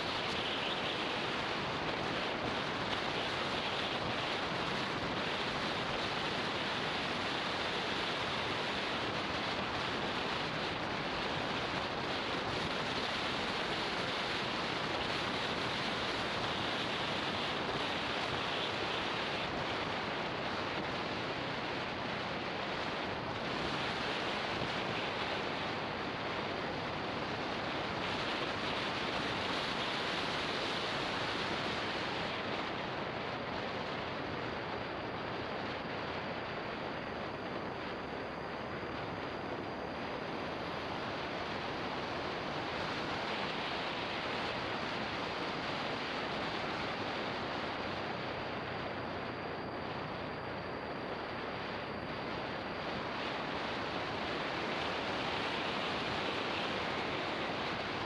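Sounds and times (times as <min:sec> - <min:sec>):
wind rush over microphone: 0:00.0 - 0:58.0.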